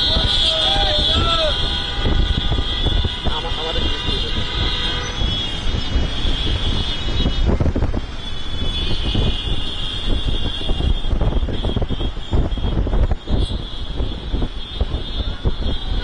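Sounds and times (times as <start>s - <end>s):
motorcycle engines rumbling: 0.0s - 16.0s
wind buffeting microphone: 0.0s - 16.0s.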